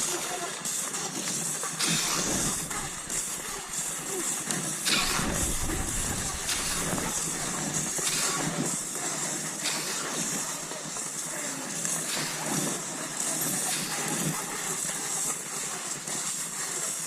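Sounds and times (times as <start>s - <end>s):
skis swishing over snow: 0.0s - 17.0s.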